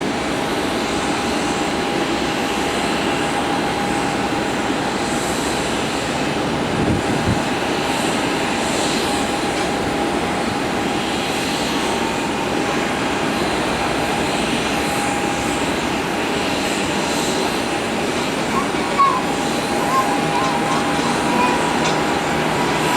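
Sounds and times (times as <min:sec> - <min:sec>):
jet engines roaring with whine: 0:00.0 - 0:22.9.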